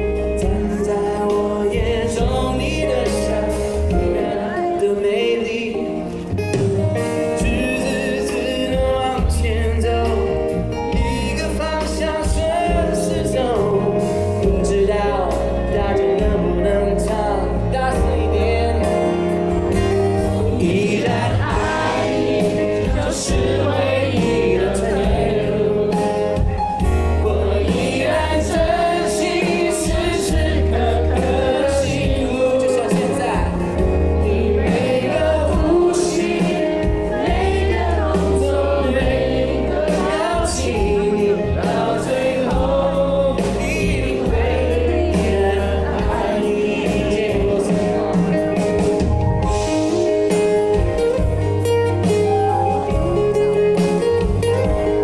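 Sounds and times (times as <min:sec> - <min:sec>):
band playing with steady beat: 0:00.0 - 0:55.0
person singing ballad: 0:00.0 - 0:55.0.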